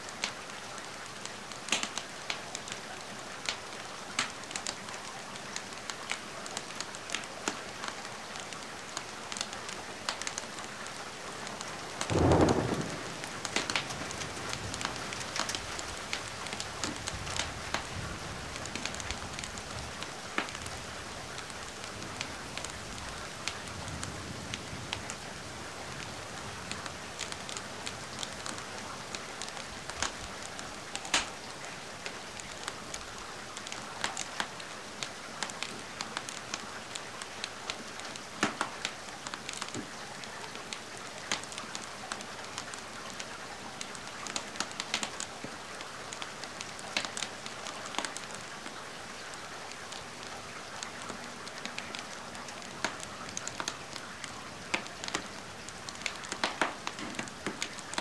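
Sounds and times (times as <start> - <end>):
wood fire crackling: 0.0 - 25.2, 25.9 - 58.0
steady rain hiss: 0.0 - 58.0.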